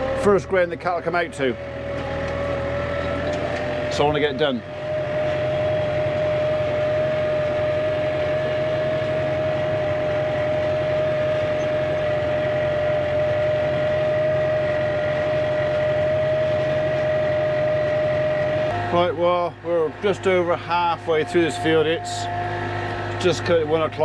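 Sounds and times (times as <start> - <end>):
steady high whine: 0.0 - 24.0
tractor engine drone: 0.0 - 24.0.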